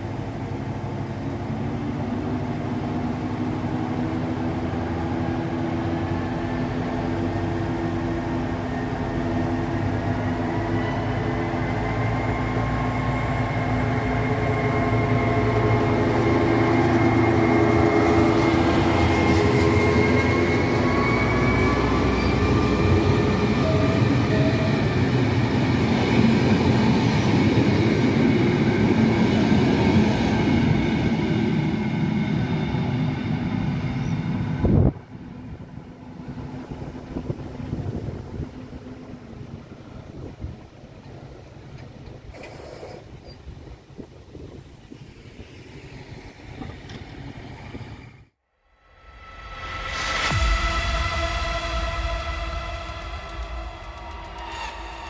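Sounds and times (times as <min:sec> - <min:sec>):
train running: 0:00.0 - 0:48.3, 0:49.2 - 0:55.0.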